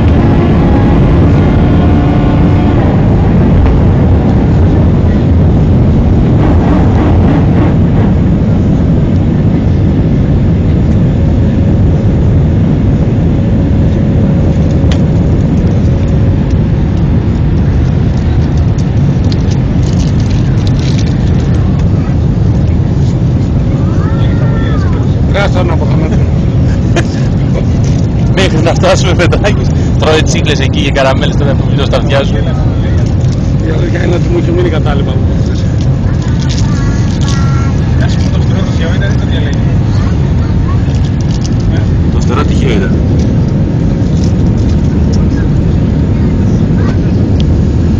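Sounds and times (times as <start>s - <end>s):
jet engines rumbling in cabin: 0.0s - 47.9s
rushing air: 0.0s - 47.9s.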